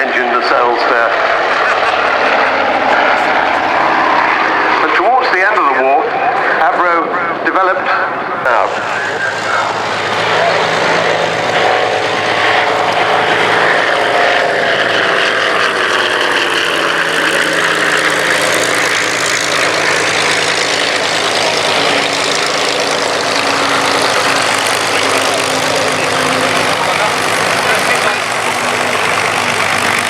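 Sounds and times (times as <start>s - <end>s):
propeller aircraft engines flying past: 0.0s - 30.0s.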